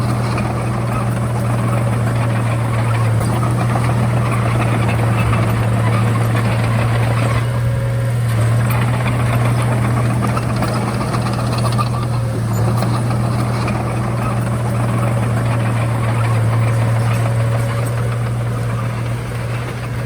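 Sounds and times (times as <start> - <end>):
bulldozer diesel engine droning: 0.0 - 20.0.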